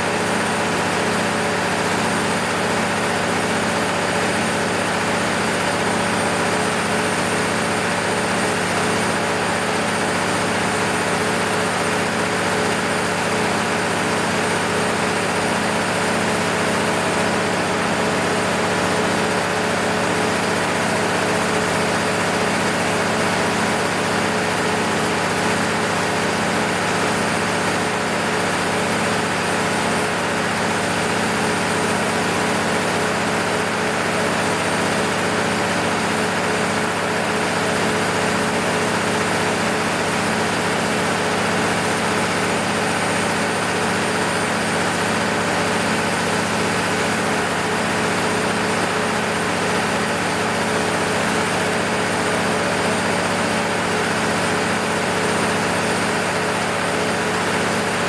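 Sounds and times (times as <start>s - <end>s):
diesel generator engine running: 0.0s - 58.0s.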